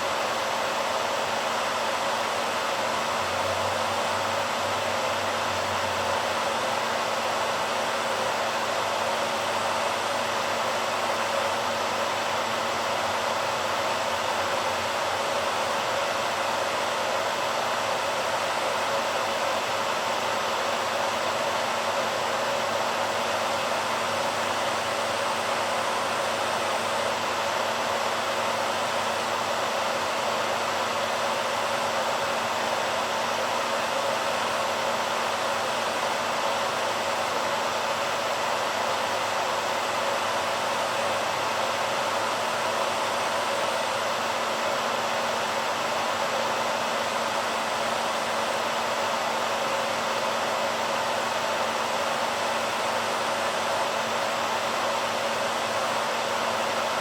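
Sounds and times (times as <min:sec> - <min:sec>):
hairdryer running: 0:00.0 - 0:57.0.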